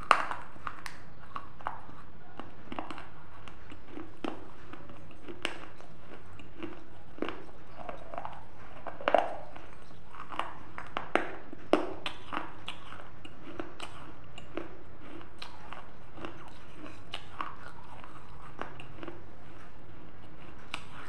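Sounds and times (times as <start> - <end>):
person chewing crunchy pottery: 0.0 - 21.0.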